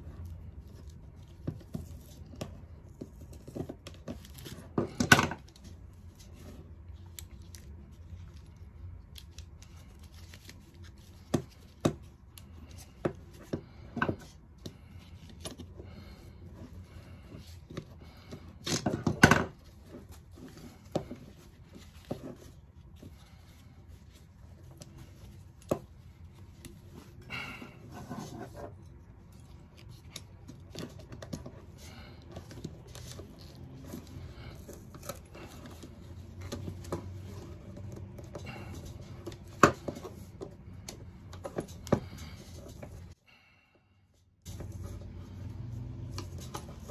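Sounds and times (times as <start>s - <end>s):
nylon webbing rustling and scraping: 0.0s - 43.2s, 44.4s - 46.9s.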